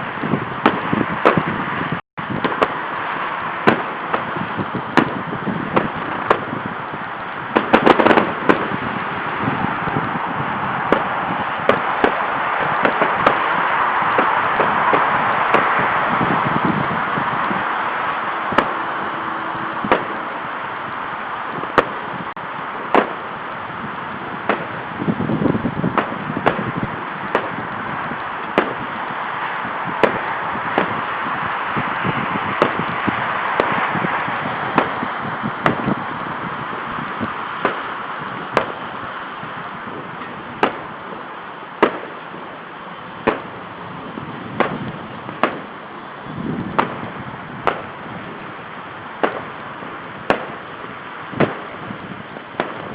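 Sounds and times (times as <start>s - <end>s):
distant fireworks bangs: 0.0s - 52.9s.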